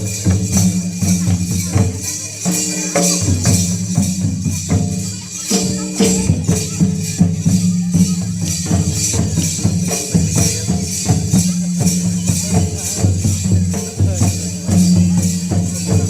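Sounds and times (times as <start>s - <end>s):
drums beating steadily: 0.0s - 16.0s
jingling rattling percussion: 0.0s - 16.0s.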